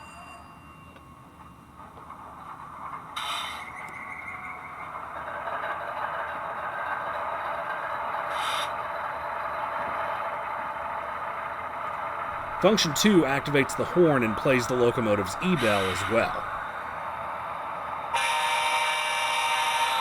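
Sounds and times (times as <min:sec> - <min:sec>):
diesel locomotive engine starting: 0:01.7 - 0:20.0.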